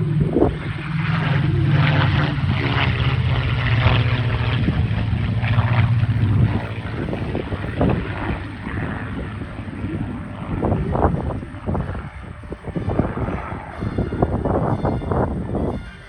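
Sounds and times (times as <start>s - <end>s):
propeller planes flying past: 0.0s - 16.0s.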